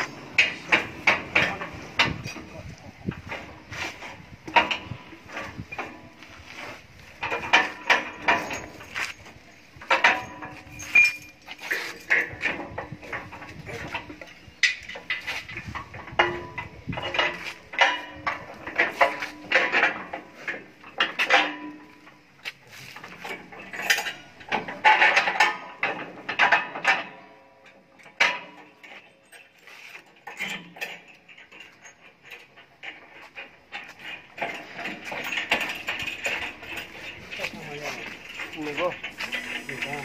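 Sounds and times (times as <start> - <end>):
metal clanks and clinks: 0.0 - 40.0.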